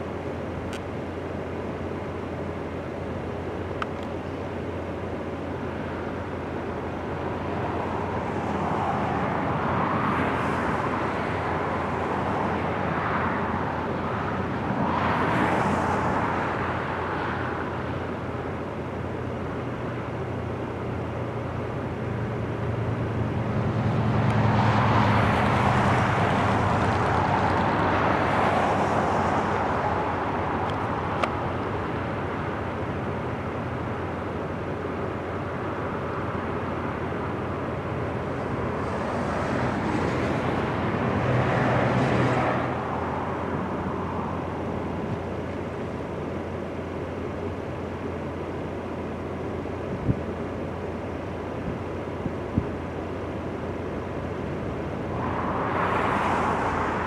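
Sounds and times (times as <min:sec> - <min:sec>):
road traffic passing: 0:00.0 - 0:57.0
turboprop aircraft taking off: 0:00.0 - 0:57.0.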